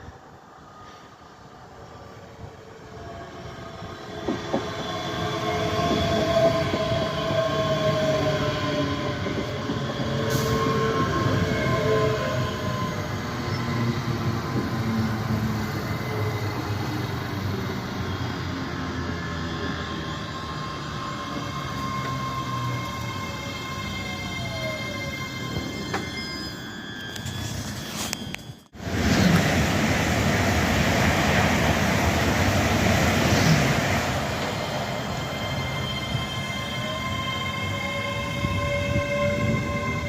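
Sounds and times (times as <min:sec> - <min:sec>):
wheels squealing on rails: 0:00.6 - 0:29.5, 0:32.4 - 0:40.0
train rumbling: 0:01.8 - 0:40.0.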